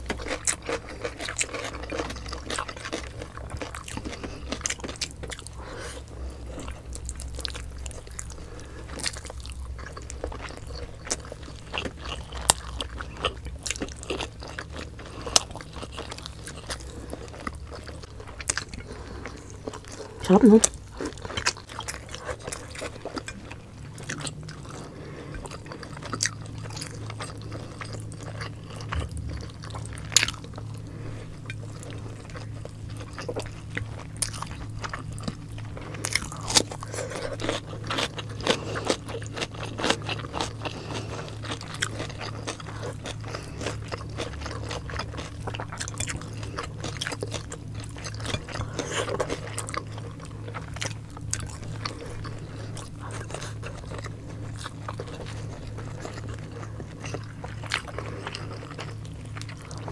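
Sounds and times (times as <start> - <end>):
low hum: 0.0 - 59.9
people chewing: 0.0 - 59.9.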